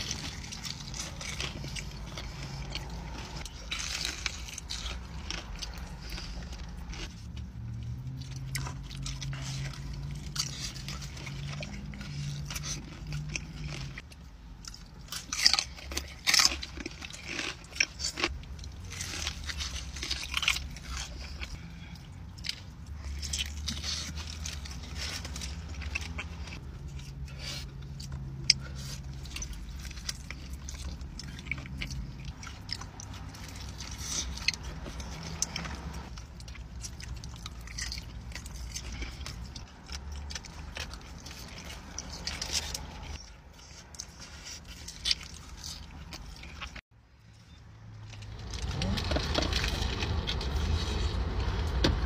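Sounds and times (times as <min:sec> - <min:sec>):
crunchy chewing: 0:00.0 - 0:52.0.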